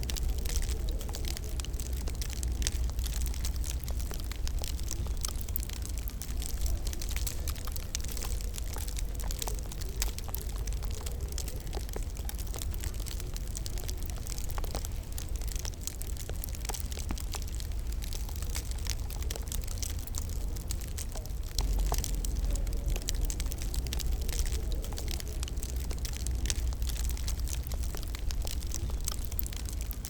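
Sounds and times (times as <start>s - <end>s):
low rumble of flames: 0.0s - 30.0s
wood fire crackling: 0.0s - 30.0s.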